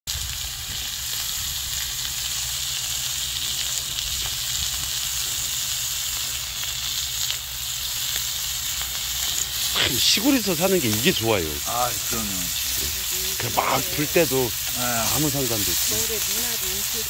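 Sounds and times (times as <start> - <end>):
pork sizzling on hot stone: 0.0 - 17.0
fat crackling: 0.8 - 17.0.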